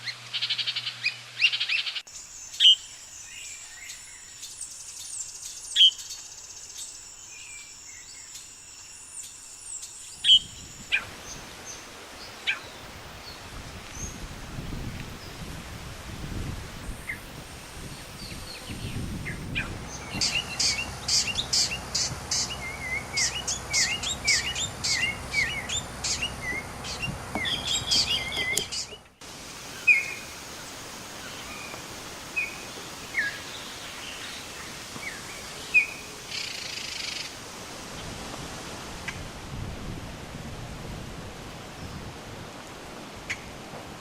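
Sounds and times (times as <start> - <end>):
wild birds chirping: 0.0 - 14.4, 16.8 - 38.2.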